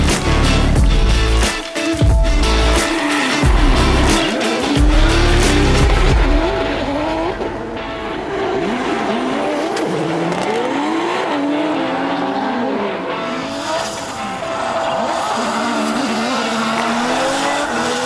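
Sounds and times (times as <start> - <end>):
car engines revving: 0.0 - 18.0
tires squealing: 2.3 - 18.0.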